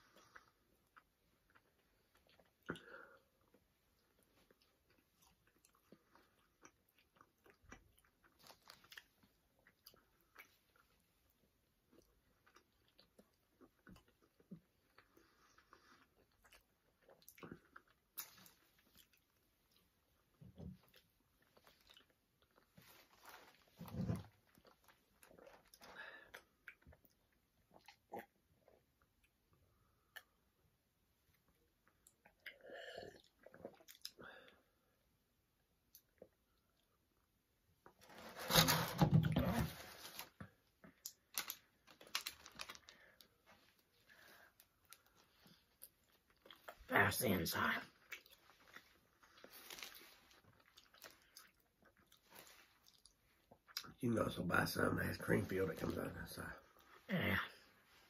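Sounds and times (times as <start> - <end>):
chewing soft donuts: 0.0 - 38.0, 40.4 - 47.1, 47.9 - 54.0.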